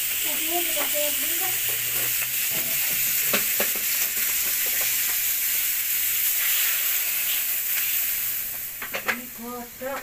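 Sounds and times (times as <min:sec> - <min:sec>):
meat sizzling in a wok: 0:00.0 - 0:10.0
water hissing in hot wok: 0:00.0 - 0:10.0.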